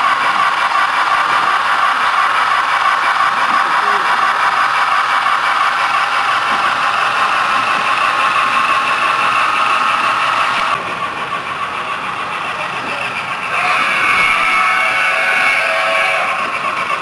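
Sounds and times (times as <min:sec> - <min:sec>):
model train whirring rattle: 0:00.0 - 0:17.0.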